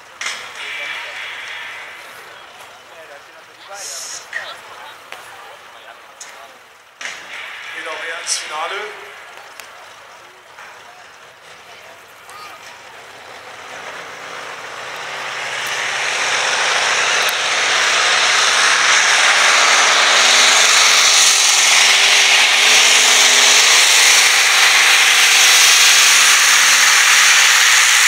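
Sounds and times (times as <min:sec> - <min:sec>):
tractor engine running flat out: 0:00.0 - 0:28.0.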